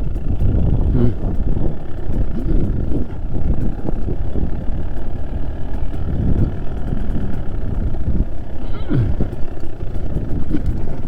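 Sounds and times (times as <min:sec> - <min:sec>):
motorcycle engine at low revs: 0:00.0 - 0:11.0
riding noise rumble: 0:00.0 - 0:11.0.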